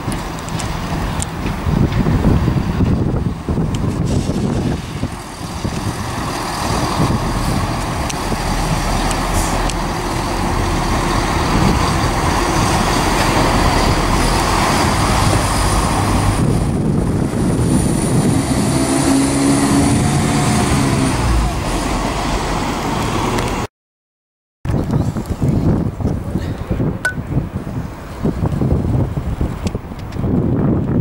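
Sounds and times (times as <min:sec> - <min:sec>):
train engine and wheel rumble: 0:00.0 - 0:23.7, 0:24.7 - 0:31.0.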